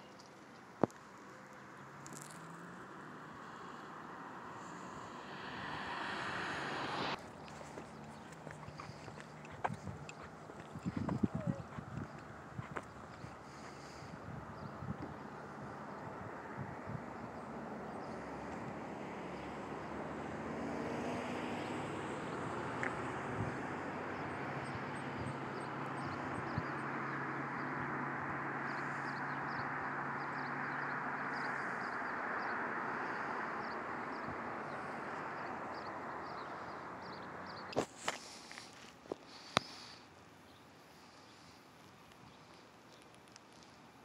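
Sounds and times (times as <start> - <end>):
vehicle running noise: 0.0 - 40.1.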